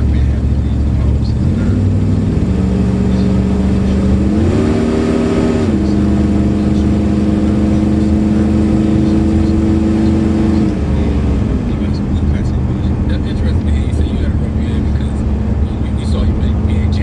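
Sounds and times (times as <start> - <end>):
car engine running: 0.0 - 17.0
low road rumble: 0.0 - 17.0.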